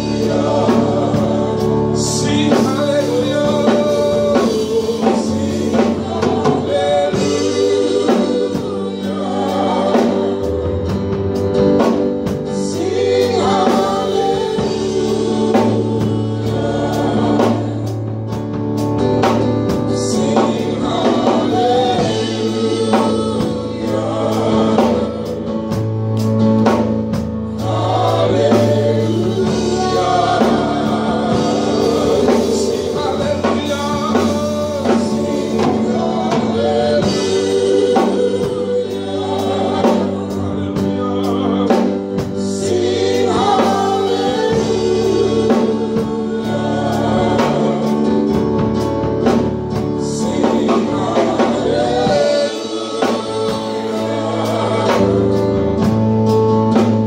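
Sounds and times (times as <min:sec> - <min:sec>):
drum kit: 0:00.0 - 0:57.0
group singing into microphones: 0:00.0 - 0:57.0
held bass notes: 0:00.0 - 0:57.0
keyboard: 0:00.0 - 0:57.0.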